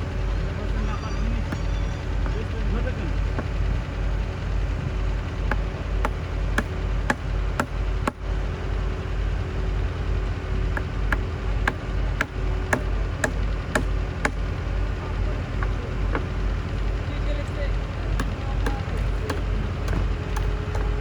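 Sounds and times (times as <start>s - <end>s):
engine running at low speed: 0.0s - 21.0s
engine ticking: 0.0s - 21.0s.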